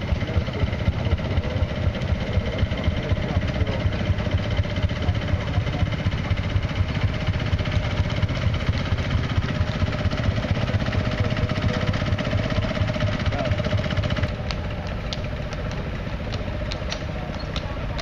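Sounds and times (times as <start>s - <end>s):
tractor engine running slowly: 0.0s - 18.0s.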